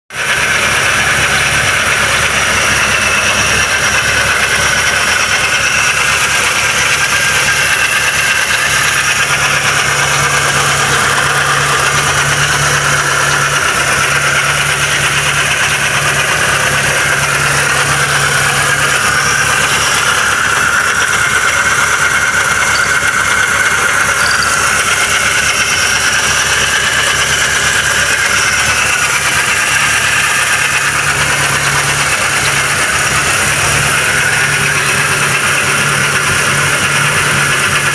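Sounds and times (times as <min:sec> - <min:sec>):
car engine idling with knocking: 0:00.0 - 0:37.9.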